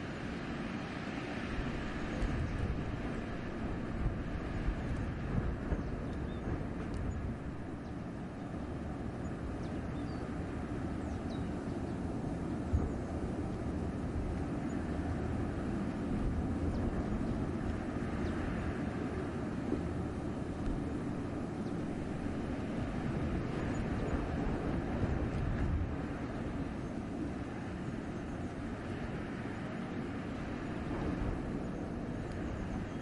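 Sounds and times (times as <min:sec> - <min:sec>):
wind through forest: 0:00.0 - 0:33.0.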